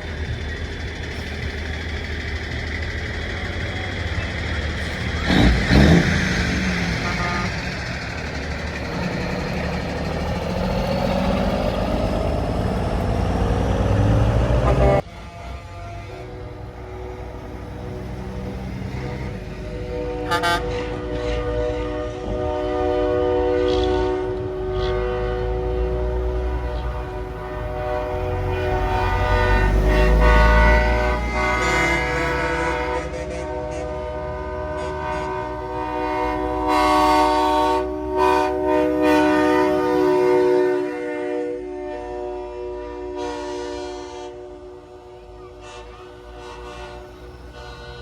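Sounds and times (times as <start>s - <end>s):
heavy truck engine rumble: 0.0s - 48.0s
truck air horn blasts: 4.2s - 48.0s.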